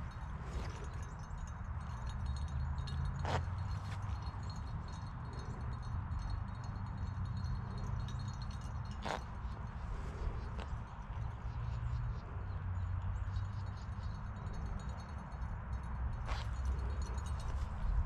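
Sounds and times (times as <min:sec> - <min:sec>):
faint metallic jingling: 0:00.0 - 0:18.0.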